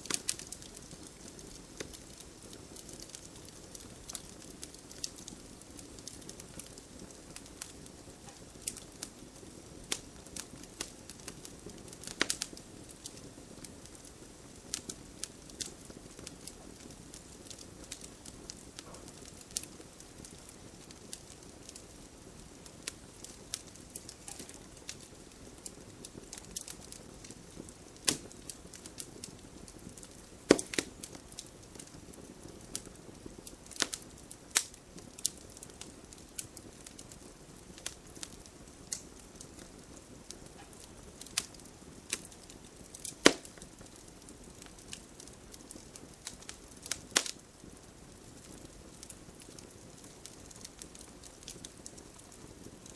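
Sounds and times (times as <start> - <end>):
campfire crackling and popping: 0.0 - 52.9
steady rush of burning: 0.0 - 52.9.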